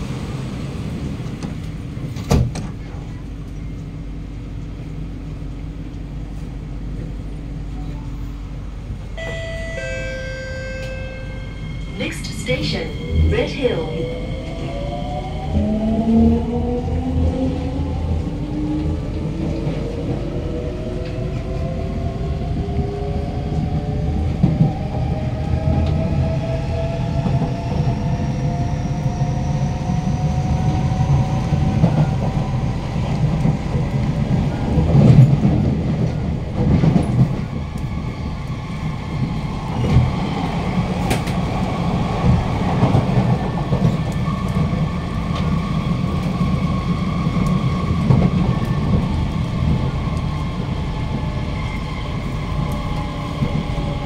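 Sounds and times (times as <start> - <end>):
steady train hum: 0.0 - 54.0
wheels rumbling on track: 0.0 - 54.0.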